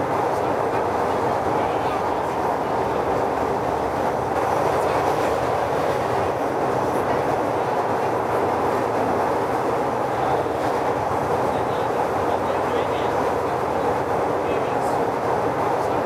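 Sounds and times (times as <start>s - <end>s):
subway train running: 0.0s - 16.0s.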